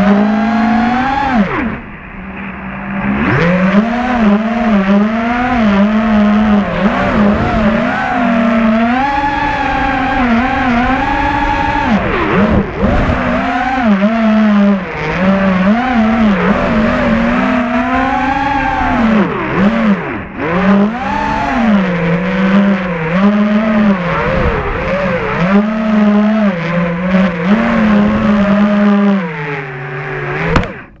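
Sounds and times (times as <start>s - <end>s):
quadcopter motors whining: 0.0s - 31.0s.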